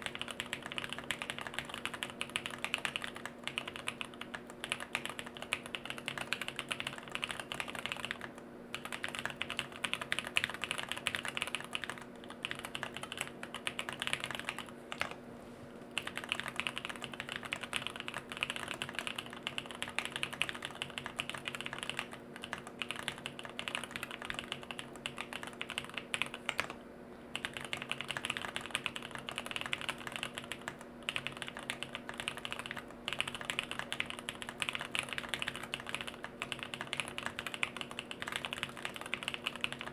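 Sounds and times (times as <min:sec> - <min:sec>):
mechanical keyboard typing: 0:00.0 - 0:15.2, 0:16.0 - 0:39.9
faint steady hum: 0:00.0 - 0:39.9.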